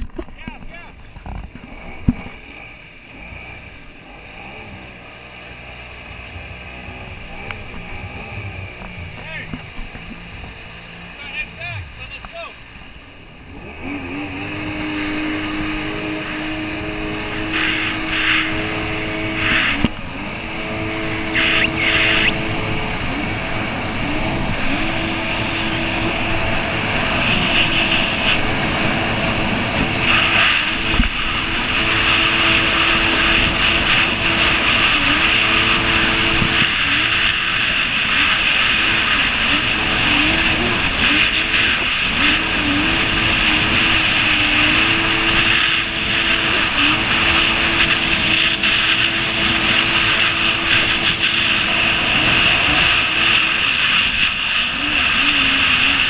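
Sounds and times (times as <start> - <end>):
jet ski engine droning: 0.0 - 56.0
rush of wind and water: 0.0 - 56.0.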